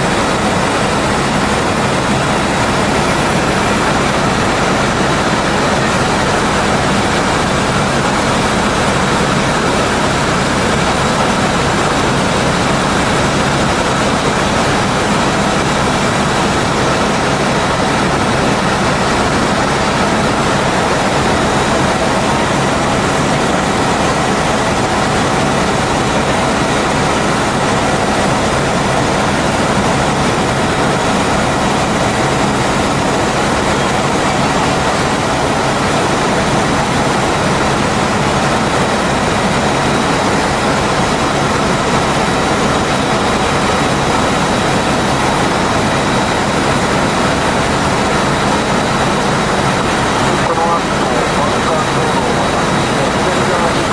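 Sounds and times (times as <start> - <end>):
helicopter engine and rotor rush: 0.0 - 53.9.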